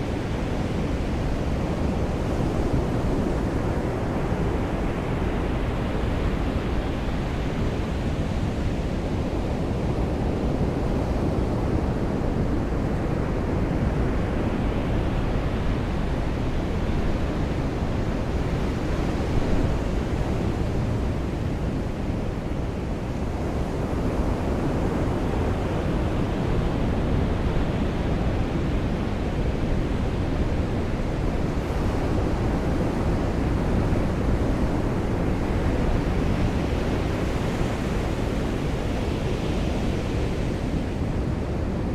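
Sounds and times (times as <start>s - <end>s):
ocean surf on a beach: 0.0s - 41.9s.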